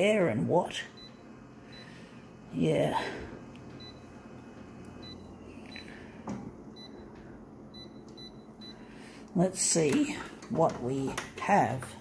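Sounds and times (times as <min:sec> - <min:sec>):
photocopier humming: 0:00.0 - 0:12.0.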